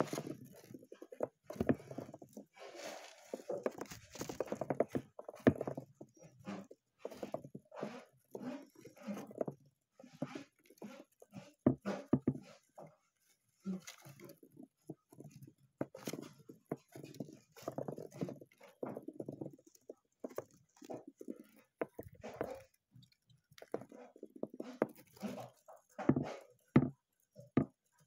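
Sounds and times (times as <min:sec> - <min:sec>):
hamster scratching on plastic: 0:00.0 - 0:23.0, 0:23.6 - 0:26.6.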